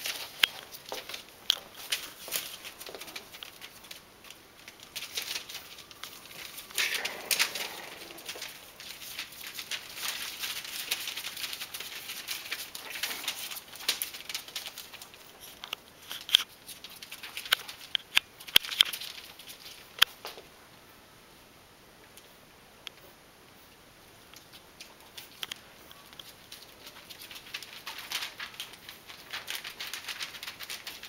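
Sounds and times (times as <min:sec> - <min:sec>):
paws scrabbling on newspaper: 0:00.0 - 0:20.4, 0:24.3 - 0:31.0.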